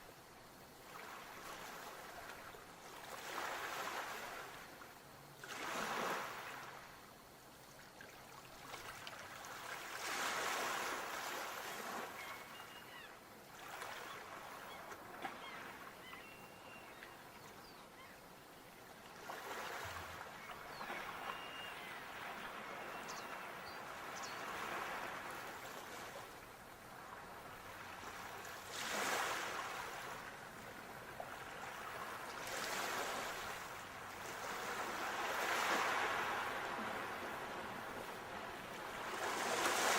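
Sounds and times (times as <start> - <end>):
sea waves breaking on shore: 0.7 - 7.0, 7.8 - 17.4, 19.0 - 39.9.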